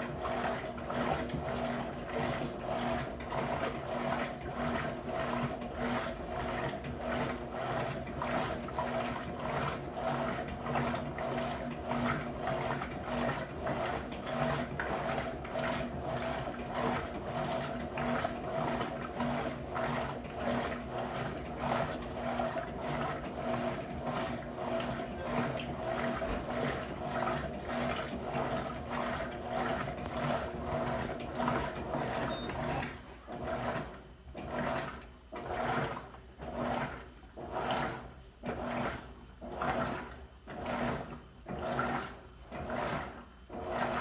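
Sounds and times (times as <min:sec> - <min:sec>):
washing machine motor hum: 0:00.0 - 0:44.0.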